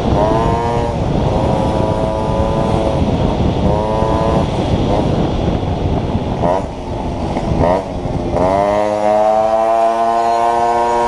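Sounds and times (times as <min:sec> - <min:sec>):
motorcycle engine revving: 0:00.0 - 0:11.0
wind on microphone: 0:00.0 - 0:11.0.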